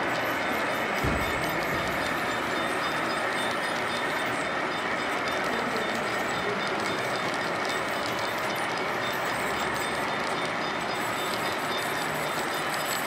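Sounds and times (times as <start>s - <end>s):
model train wheels on rail: 0.0s - 13.0s
rail joints ticking: 0.0s - 13.0s.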